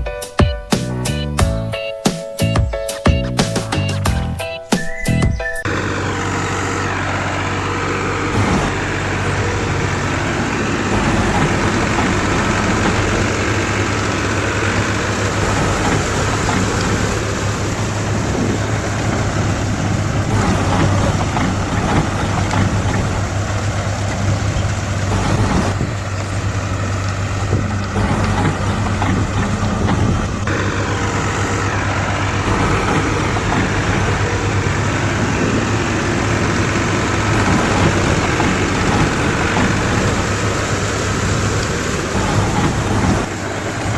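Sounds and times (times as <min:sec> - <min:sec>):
heavy engine idling: 0:05.6 - 0:43.9.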